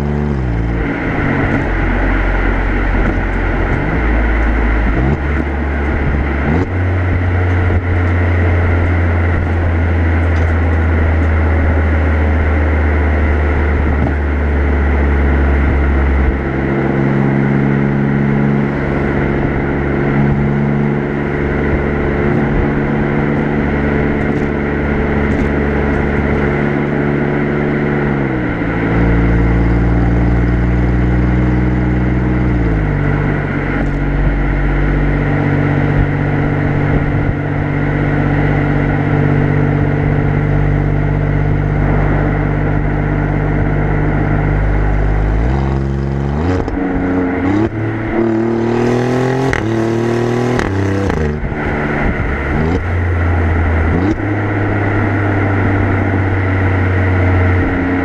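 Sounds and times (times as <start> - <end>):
car exhaust droning and revving: 0.0 - 58.0.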